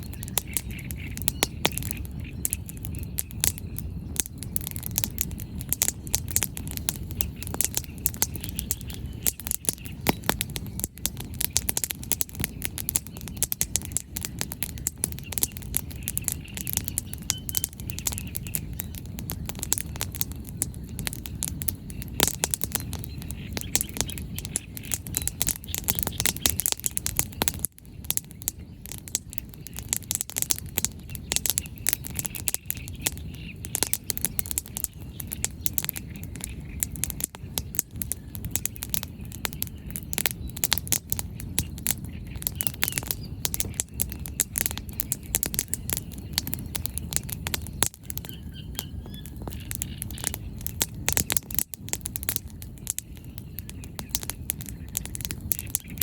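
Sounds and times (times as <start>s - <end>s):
low rush of fire: 0.0s - 56.0s
wood fire crackling and popping: 0.0s - 56.0s.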